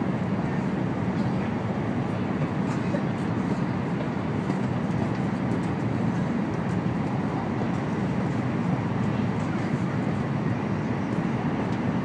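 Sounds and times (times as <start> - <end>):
train rumble and rush: 0.0 - 12.0.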